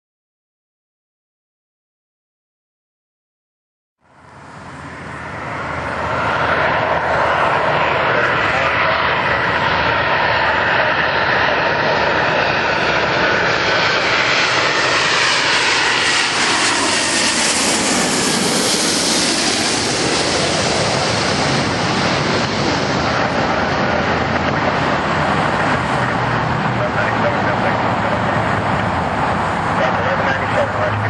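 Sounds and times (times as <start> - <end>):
jet airliner passing overhead: 4.0 - 31.0.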